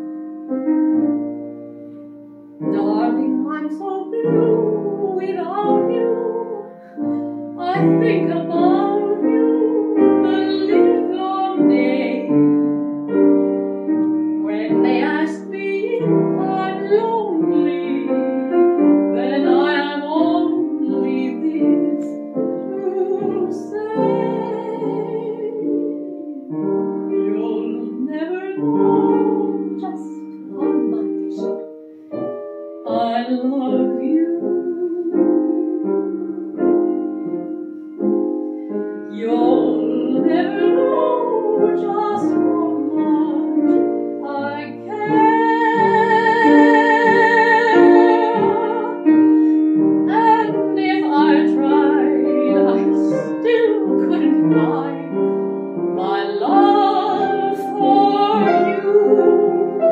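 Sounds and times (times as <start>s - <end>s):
grand piano: 0.0s - 59.9s
woman singing with vibrato: 2.6s - 13.3s, 14.3s - 31.6s, 32.8s - 37.6s, 39.0s - 59.9s.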